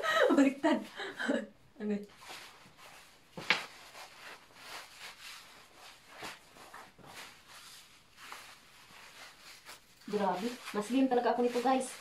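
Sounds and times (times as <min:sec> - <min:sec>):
garment rustling and rubbing: 0:02.1 - 0:12.0.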